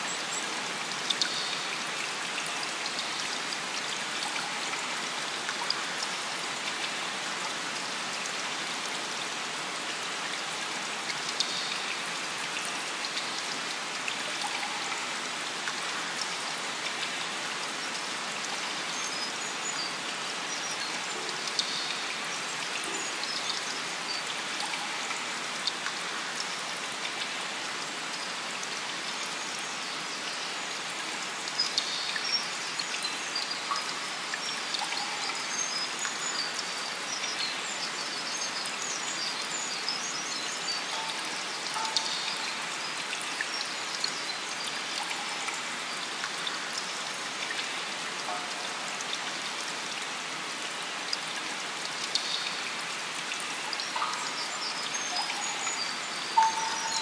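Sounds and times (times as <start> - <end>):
steady rain: 0.0 - 57.0
water dripping: 0.1 - 57.0.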